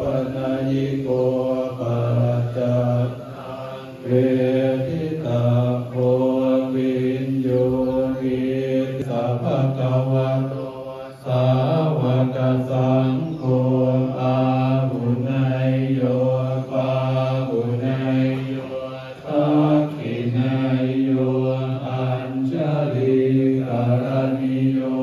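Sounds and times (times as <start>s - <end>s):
monks chanting in unison: 0.0s - 25.0s.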